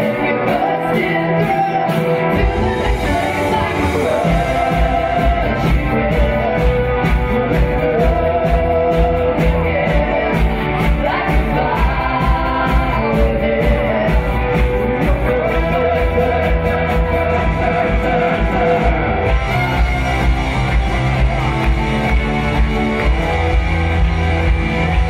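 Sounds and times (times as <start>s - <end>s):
voices singing together: 0.0s - 22.1s
acoustic and electric guitars: 0.0s - 25.0s.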